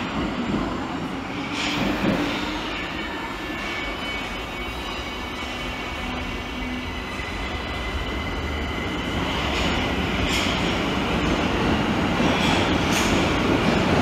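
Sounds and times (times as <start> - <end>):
train pulling out rumbling: 0.0 - 14.0.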